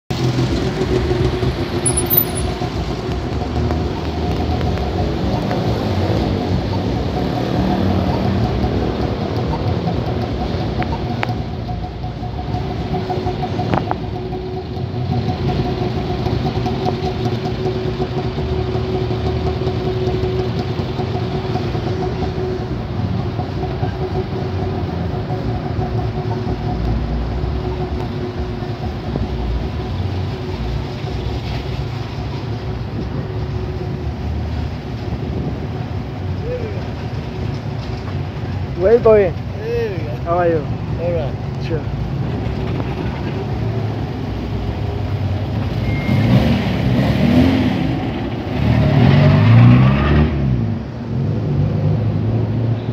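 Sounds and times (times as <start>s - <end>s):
car engines rumbling: 0.1s - 52.9s.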